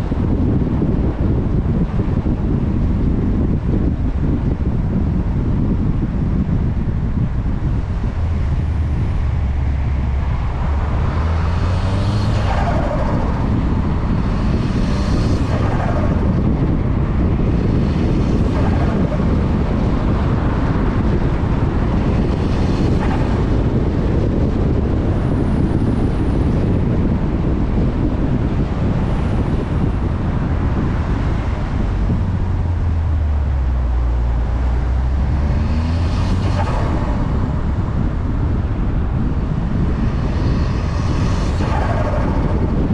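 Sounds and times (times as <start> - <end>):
road noise: 0.0 - 42.9
car engine accelerating: 6.7 - 42.9.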